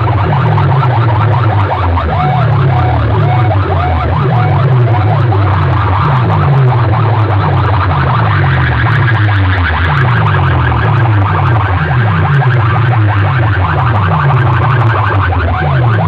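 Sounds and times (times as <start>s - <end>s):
loud distorted sound system music: 0.0s - 16.0s
pounding bass beat: 0.0s - 16.0s
warbling siren-like sweeps: 0.0s - 16.0s.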